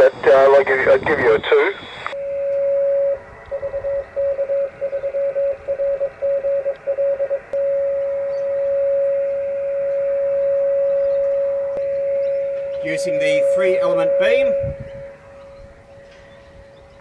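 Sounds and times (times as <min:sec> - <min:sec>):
morse code tone: 0:02.2 - 0:17.0.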